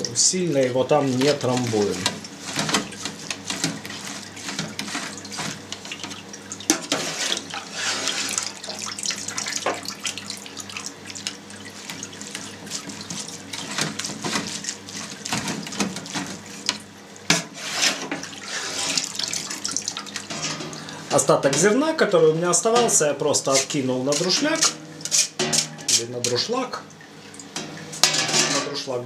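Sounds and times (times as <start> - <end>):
whey splashing and dripping: 0.0 - 17.3, 18.1 - 21.8, 22.6 - 28.2.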